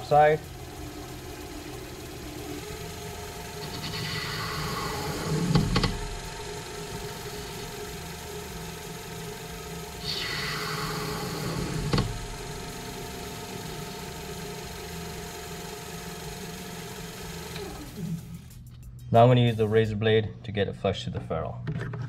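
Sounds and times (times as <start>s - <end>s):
cutting tool hissing: 0.0s - 18.2s
lathe motor running: 0.0s - 18.6s.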